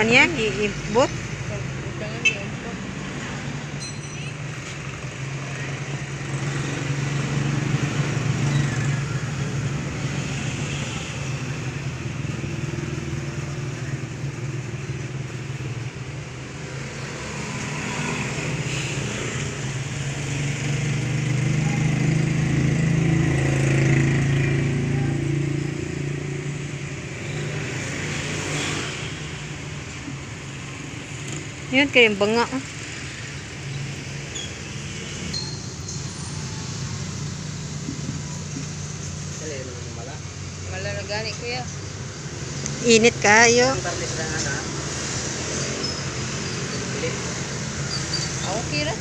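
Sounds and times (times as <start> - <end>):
motorcycles passing: 0.0 - 49.0.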